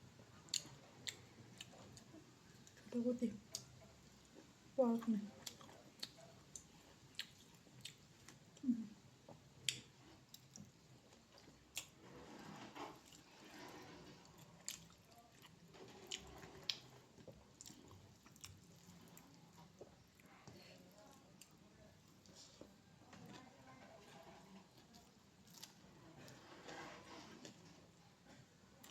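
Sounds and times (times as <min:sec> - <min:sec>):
person chewing food: 0:00.2 - 0:04.6, 0:05.4 - 0:22.8, 0:24.7 - 0:28.0.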